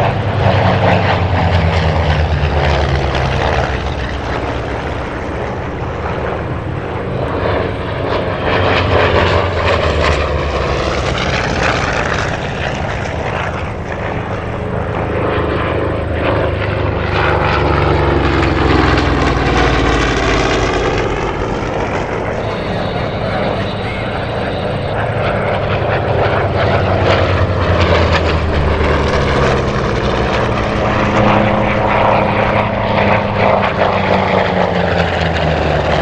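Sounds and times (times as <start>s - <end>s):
propeller aircraft flying past: 0.0s - 36.0s.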